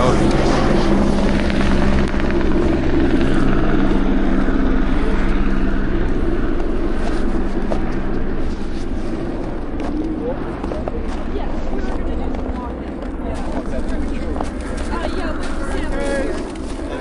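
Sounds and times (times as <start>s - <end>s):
helicopter rotor and engine: 0.0s - 17.0s
low hum: 0.0s - 17.0s.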